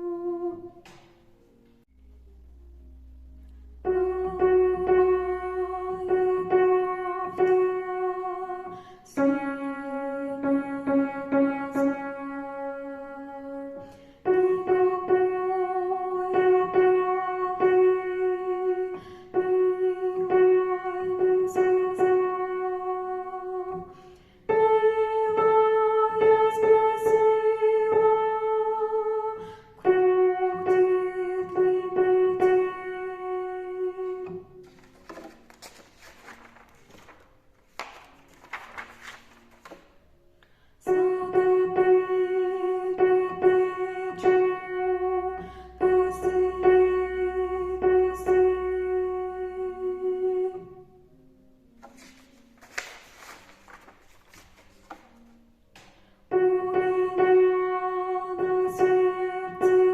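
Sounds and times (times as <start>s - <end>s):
keyboard instrumental music: 0.0s - 59.9s.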